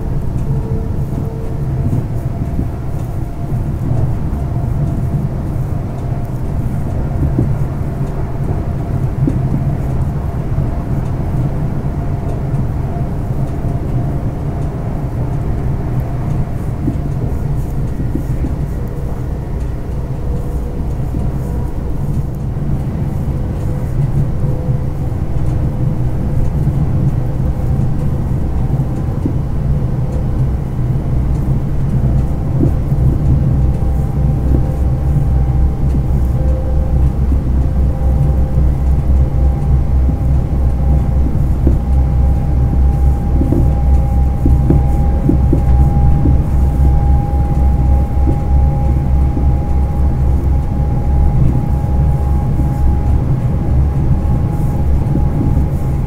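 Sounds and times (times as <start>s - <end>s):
faint steady whine: 0.0s - 56.0s
train rumble: 0.0s - 56.0s.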